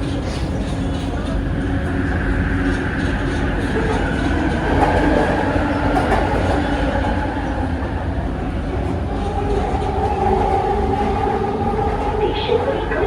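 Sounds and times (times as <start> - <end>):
metro car rumbling: 0.0 - 13.0.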